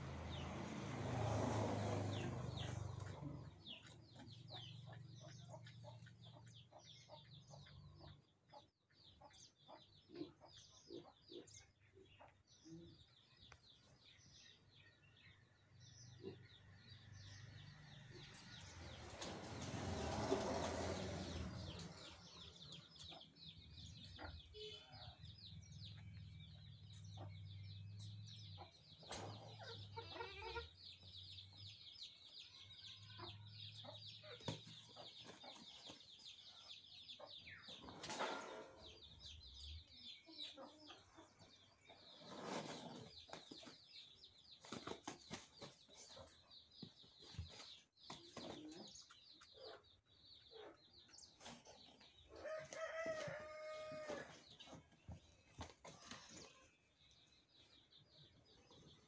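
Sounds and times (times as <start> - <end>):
small birds chirping: 1.8 - 59.0.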